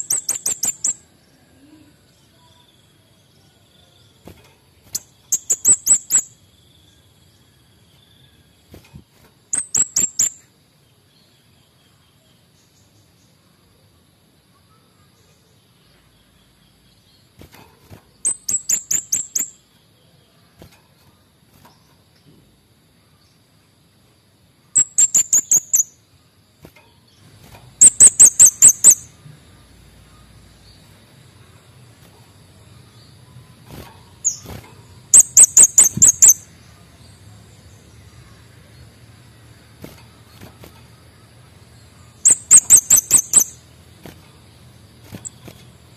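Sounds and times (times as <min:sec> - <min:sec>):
songbird high-pitched chirps: 0:00.0 - 0:45.9.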